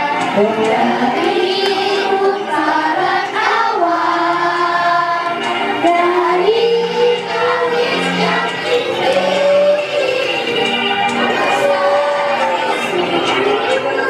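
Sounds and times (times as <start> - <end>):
backing music: 0.0 - 14.0
children singing: 0.0 - 14.0.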